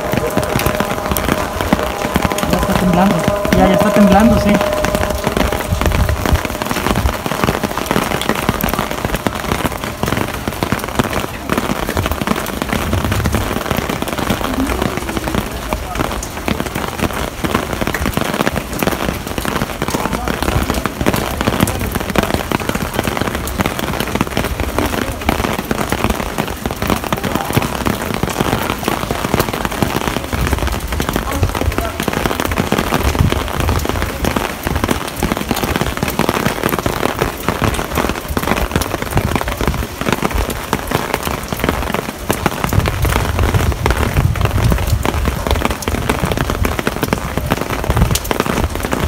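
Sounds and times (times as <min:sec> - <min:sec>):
heavy rain on hard surface: 0:00.0 - 0:49.0.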